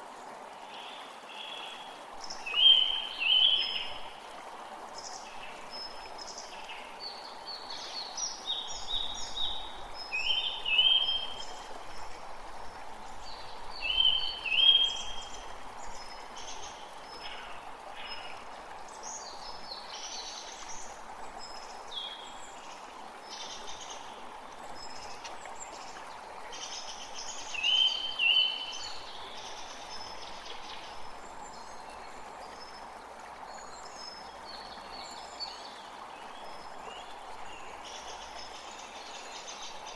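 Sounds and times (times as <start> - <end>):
creek running: 0.0 - 39.9.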